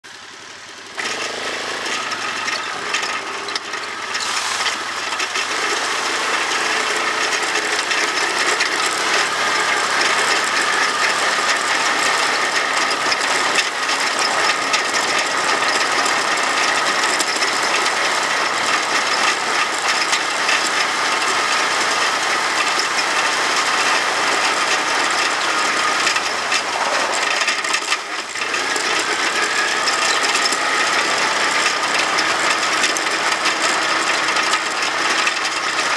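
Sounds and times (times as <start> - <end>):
fast mechanical rattle: 0.0 - 35.9
quad engine drone: 0.0 - 35.9.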